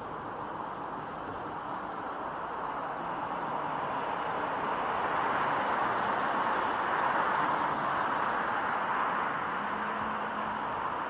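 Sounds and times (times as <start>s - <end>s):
passing street traffic: 0.0s - 11.0s.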